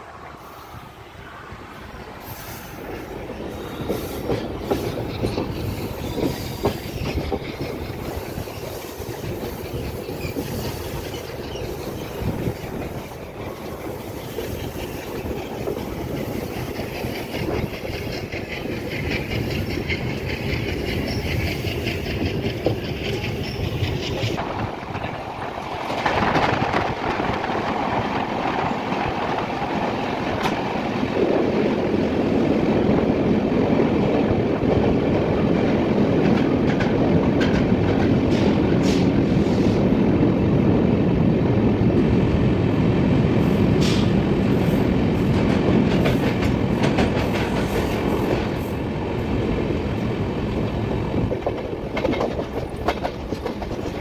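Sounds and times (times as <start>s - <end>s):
train running at speed: 0.0s - 54.0s.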